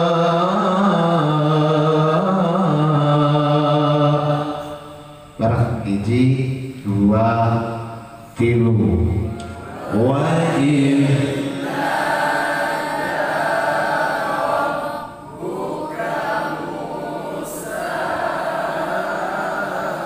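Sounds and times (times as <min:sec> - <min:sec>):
group chanting melodically: 0:00.0 - 0:05.4, 0:09.2 - 0:20.0.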